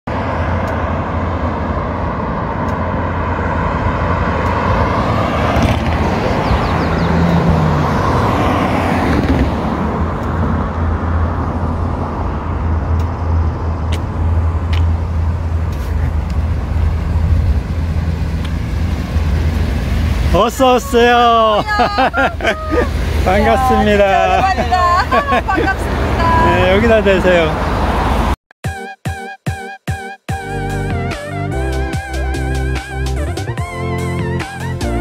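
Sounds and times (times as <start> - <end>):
road traffic rumble: 0.1 - 28.4, 30.4 - 35.0
vehicle passing: 0.1 - 28.4.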